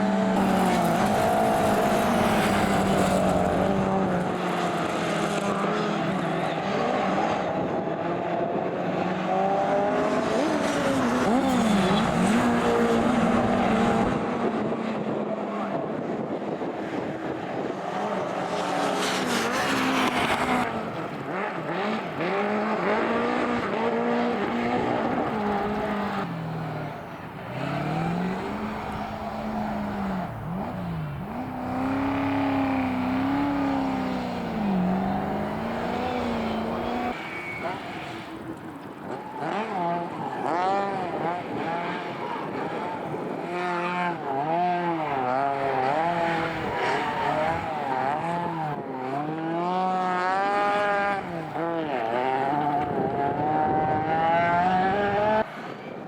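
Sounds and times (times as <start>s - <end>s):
racing car engines at high revs: 0.0s - 56.0s.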